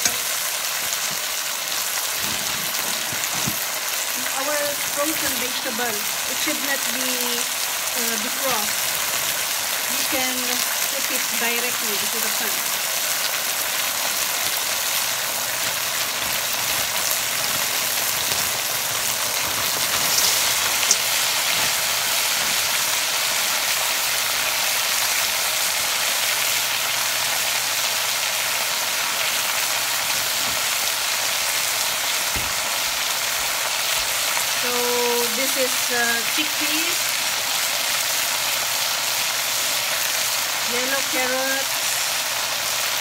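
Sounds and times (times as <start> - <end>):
food sizzling in a wok: 0.0 - 43.0
frozen vegetables hissing: 0.0 - 43.0.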